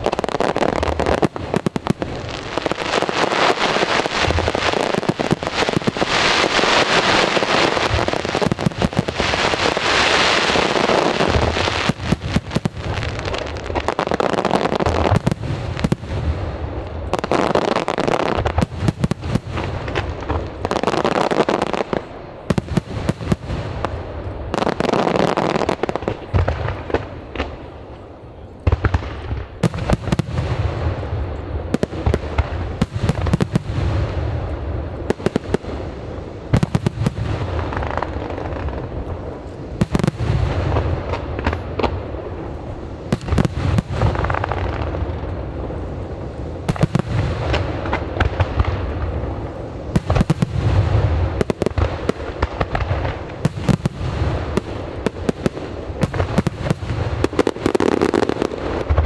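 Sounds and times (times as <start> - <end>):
fireworks booming: 0.0 - 59.0
fireworks cracks and crackle: 0.0 - 59.0.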